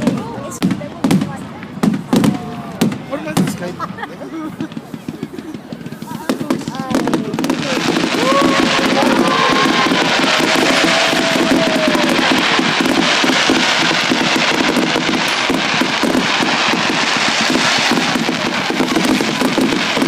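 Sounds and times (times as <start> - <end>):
fireworks crackling: 0.0 - 20.0
whistling fireworks: 0.0 - 20.0.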